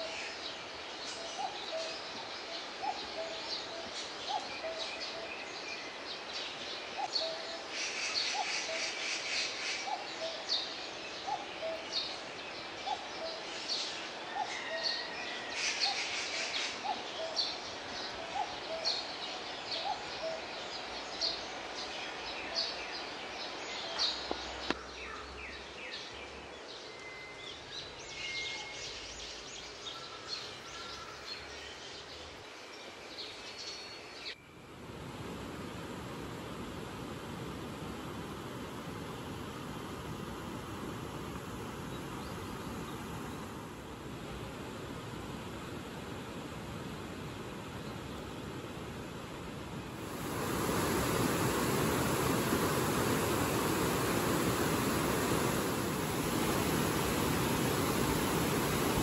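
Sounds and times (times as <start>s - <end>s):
steady outdoor hiss: 0.0s - 59.0s.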